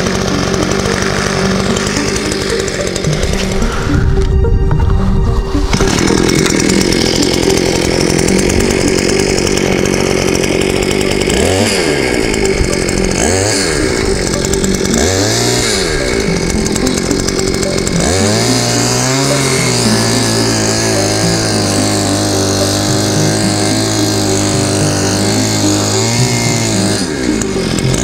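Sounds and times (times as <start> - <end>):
two-stroke cultivator engine revving: 0.0 - 28.0.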